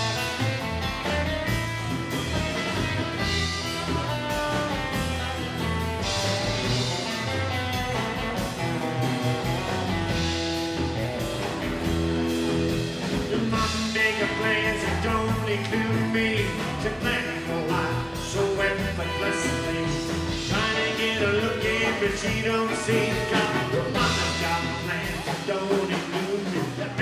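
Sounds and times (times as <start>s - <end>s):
low bass line: 0.0s - 25.4s
drums: 0.0s - 27.0s.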